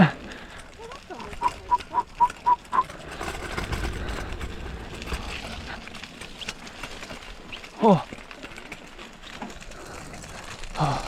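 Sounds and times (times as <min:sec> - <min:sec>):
tyres rumbling on dirt: 0:00.0 - 0:11.0.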